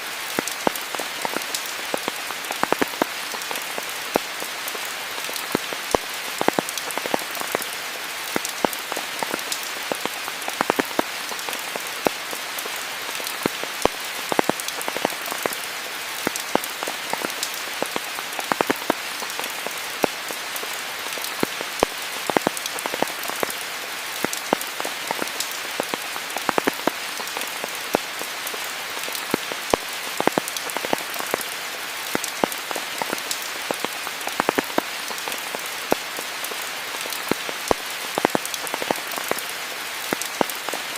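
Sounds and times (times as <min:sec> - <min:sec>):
steady rain hiss: 0:00.0 - 0:40.9
raindrops striking: 0:00.1 - 0:40.9.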